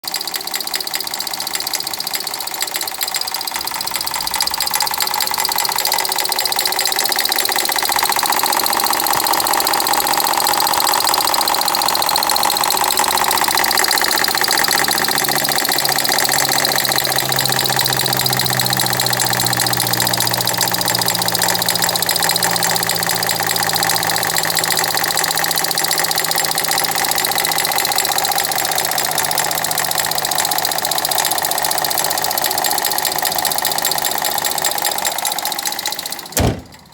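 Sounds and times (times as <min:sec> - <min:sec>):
car engine knocking: 0:00.0 - 0:36.9.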